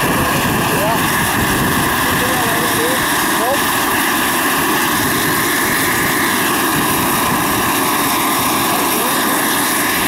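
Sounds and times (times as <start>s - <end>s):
model helicopter hovering: 0.0s - 10.0s
rushing noise: 0.0s - 10.0s.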